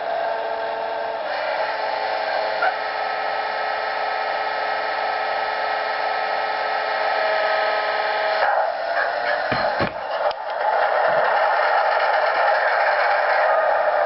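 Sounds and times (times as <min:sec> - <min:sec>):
diesel engine sound from small speaker: 0:00.0 - 0:14.0.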